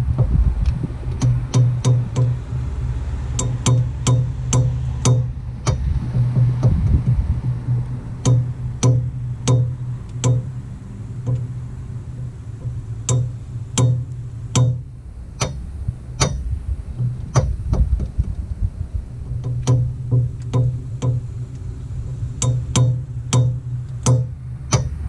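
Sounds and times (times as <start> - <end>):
driveshaft joint clicking: 0.0 - 2.7, 3.3 - 18.4, 19.2 - 25.0
low rumble: 0.0 - 25.0.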